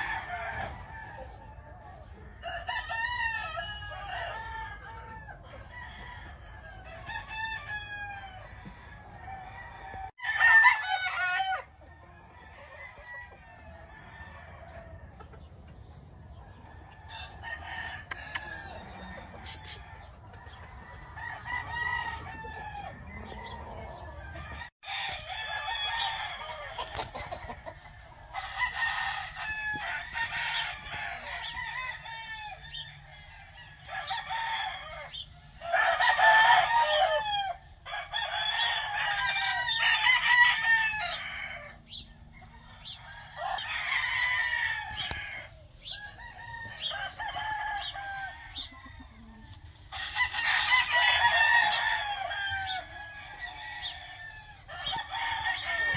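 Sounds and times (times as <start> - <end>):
roosters crowing: 0.0 - 55.9.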